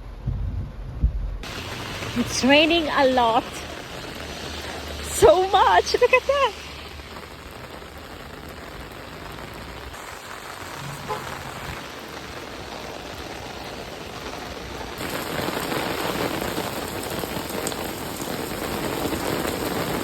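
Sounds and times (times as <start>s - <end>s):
heavy rain on a car: 1.4s - 20.0s.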